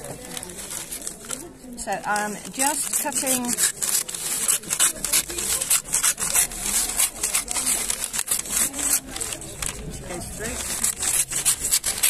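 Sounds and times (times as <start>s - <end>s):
knife sawing through paper: 0.0s - 1.4s, 2.1s - 12.0s.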